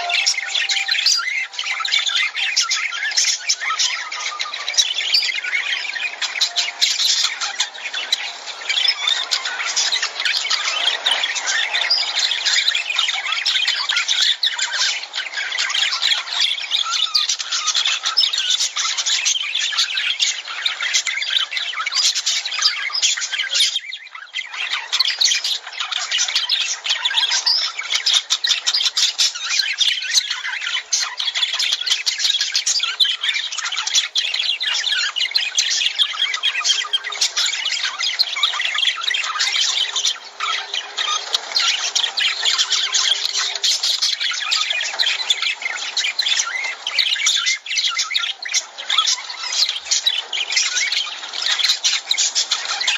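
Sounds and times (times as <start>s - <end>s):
lovebirds chattering and squawking: 0.0s - 52.9s.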